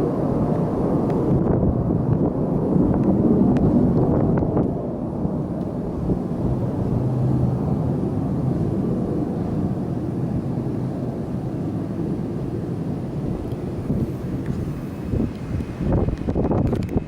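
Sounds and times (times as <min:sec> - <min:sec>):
jet engine rumbling: 0:00.0 - 0:17.0.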